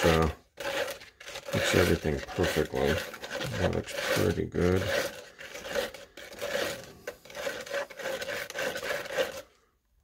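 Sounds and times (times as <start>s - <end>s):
stir stick scraping cup: 0.0s - 9.7s.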